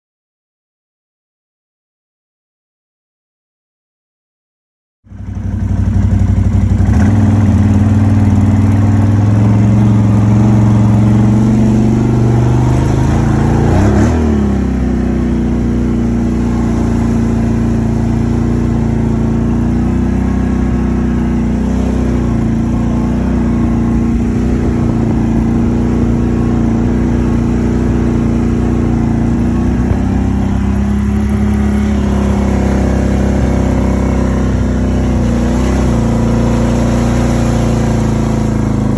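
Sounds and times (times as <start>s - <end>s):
atv engine running: 5.1s - 38.9s.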